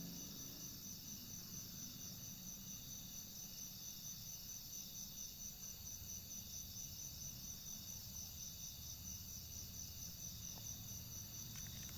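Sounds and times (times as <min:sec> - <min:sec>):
crickets trilling: 0:00.0 - 0:11.9.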